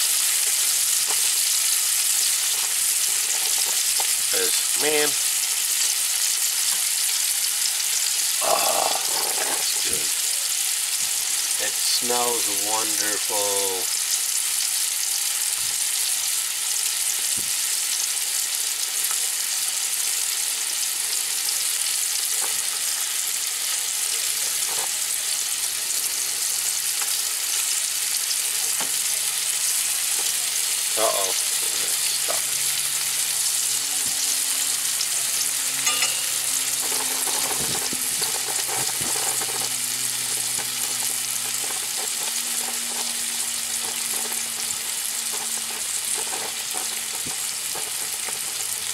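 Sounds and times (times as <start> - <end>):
fish fillets sizzling in butter: 0.0 - 48.9.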